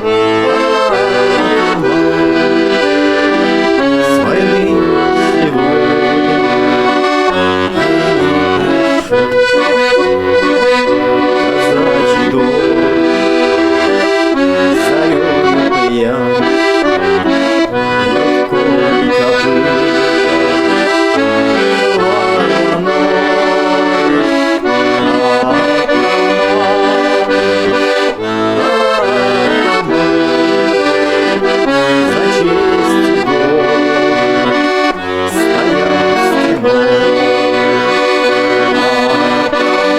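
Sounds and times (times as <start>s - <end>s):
instrumental music: 0.0s - 39.9s.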